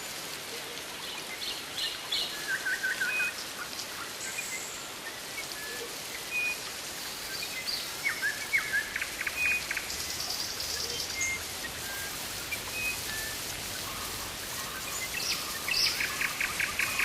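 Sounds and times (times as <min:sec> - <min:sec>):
hiss of rain or insects: 0:00.0 - 0:17.0.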